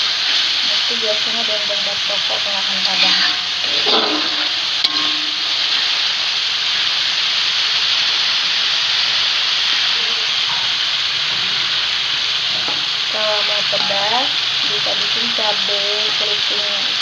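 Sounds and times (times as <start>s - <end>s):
chili paste sizzling in oil: 0.0s - 17.0s.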